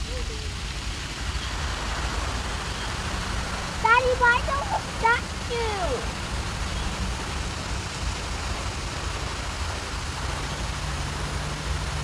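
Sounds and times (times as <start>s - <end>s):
fountain water jet splashing: 0.0s - 12.0s
rain: 0.0s - 12.0s
wind rumble on microphone: 0.0s - 12.0s.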